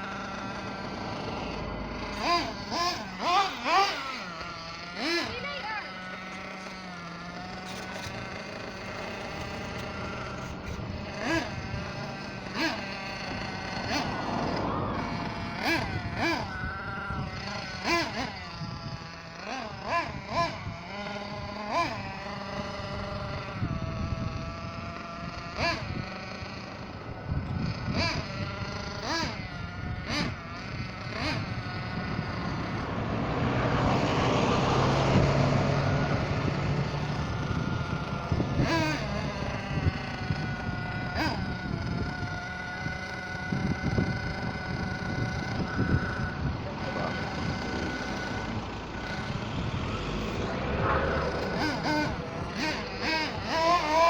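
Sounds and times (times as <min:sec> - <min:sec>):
small nitro engine revving: 0:00.0 - 0:54.0.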